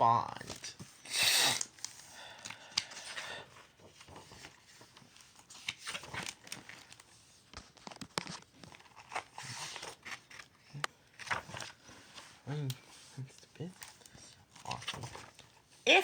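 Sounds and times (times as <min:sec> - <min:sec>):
book pages rustling: 0:01.6 - 0:15.8.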